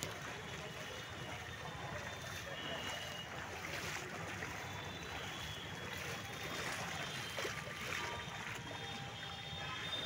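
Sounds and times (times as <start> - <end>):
person wading through water: 0.0 - 10.0.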